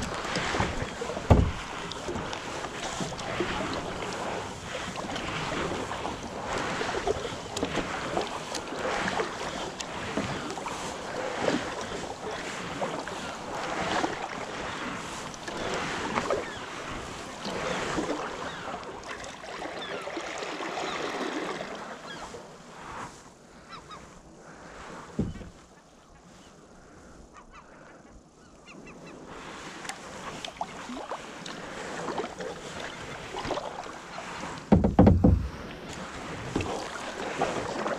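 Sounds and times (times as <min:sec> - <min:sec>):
paddle splashing in water: 0:00.0 - 0:25.8, 0:29.0 - 0:37.9.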